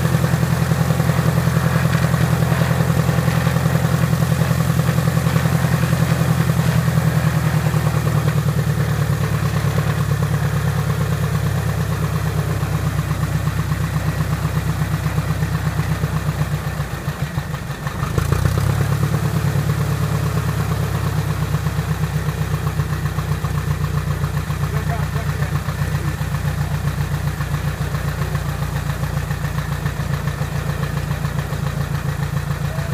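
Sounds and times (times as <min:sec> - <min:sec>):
aircraft piston engine running: 0:00.0 - 0:18.4, 0:20.0 - 0:32.9.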